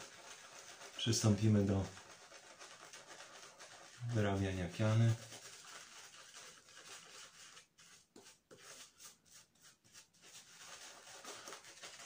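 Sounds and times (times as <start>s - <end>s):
shaving brush rubbing on face: 0.0s - 12.0s.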